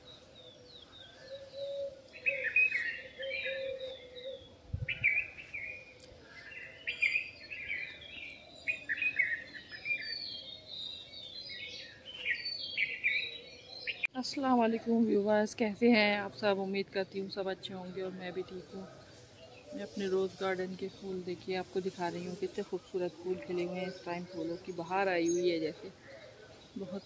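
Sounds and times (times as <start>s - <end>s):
small birds chirping and twittering: 0.0s - 27.0s.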